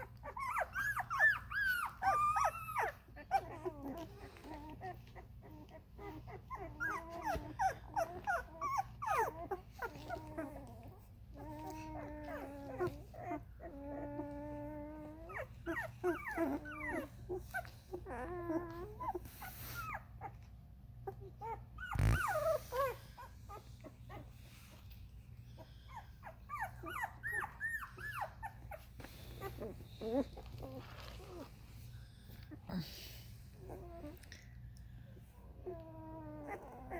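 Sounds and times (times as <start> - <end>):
puppies whimpering and squeaking: 0.0 - 36.9
puppy whines: 0.0 - 36.9.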